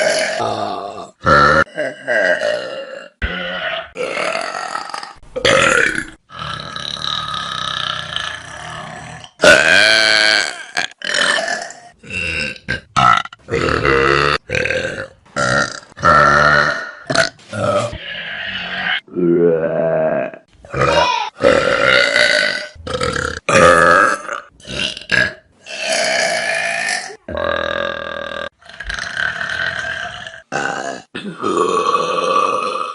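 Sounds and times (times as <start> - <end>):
person burping: 0.0 - 18.0, 18.6 - 32.9.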